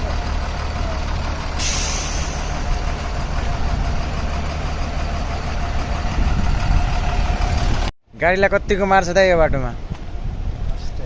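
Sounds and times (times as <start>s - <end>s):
truck engine rumble: 0.0s - 9.0s
road noise: 0.0s - 11.0s.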